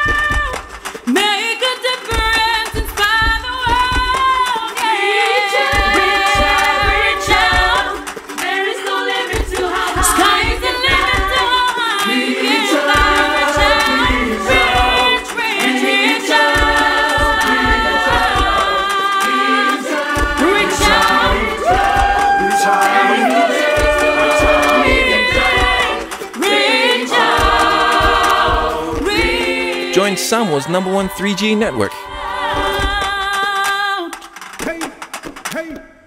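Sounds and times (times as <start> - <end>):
choir singing a cappella: 2.4 - 34.1.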